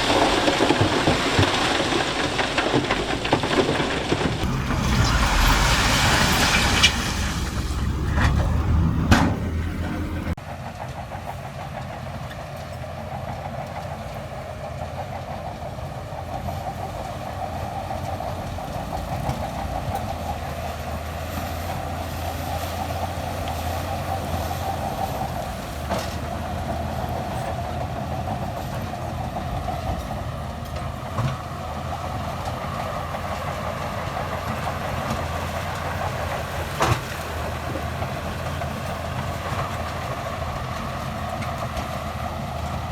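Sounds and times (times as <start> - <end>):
bulldozer diesel engine: 0.0 - 42.9
steel tracks clattering: 0.0 - 42.9.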